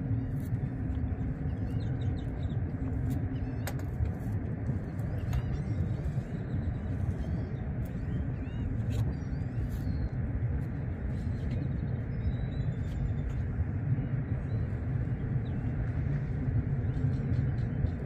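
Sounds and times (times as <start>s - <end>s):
faint chirping bird calls: 0.0s - 18.0s
low steady hum: 0.0s - 18.0s
wind buffeting microphone: 0.0s - 18.0s.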